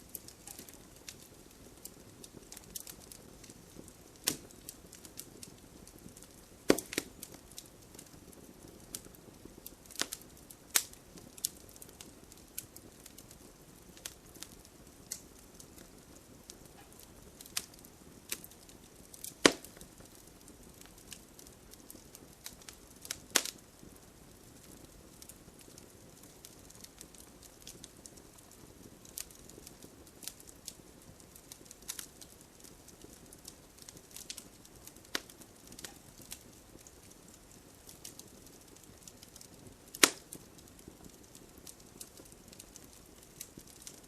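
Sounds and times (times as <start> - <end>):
campfire crackling and popping: 0.0 - 44.0
faint low hiss: 0.0 - 44.0.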